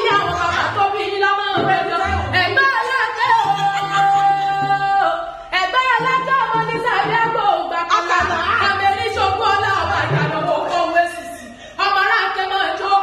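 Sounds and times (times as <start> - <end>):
music: 0.0 - 11.6.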